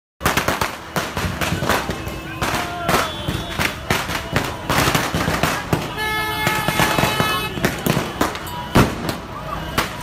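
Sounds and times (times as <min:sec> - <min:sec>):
firecrackers cracking: 0:00.2 - 0:10.0
street crowd voices: 0:00.2 - 0:10.0.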